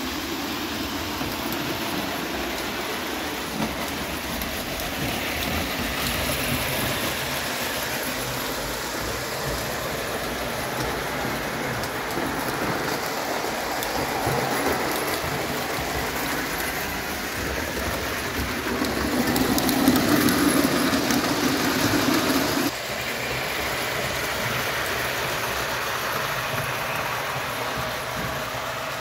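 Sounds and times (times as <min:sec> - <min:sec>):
model trains rattling on track: 0:00.0 - 0:29.0
wheels clicking over rails: 0:00.0 - 0:29.0.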